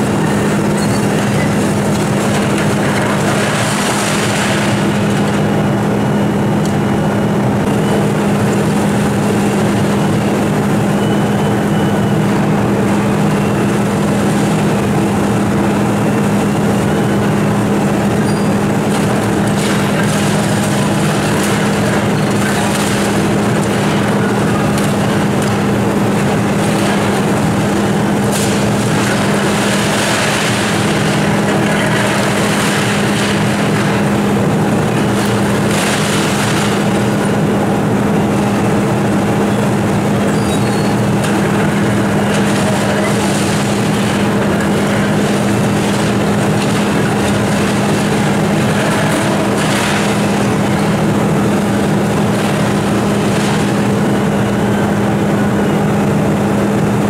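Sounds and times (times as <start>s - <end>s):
brick and masonry crumbling: 0.0s - 5.8s, 12.6s - 56.0s
excavator diesel engine running: 0.0s - 57.0s.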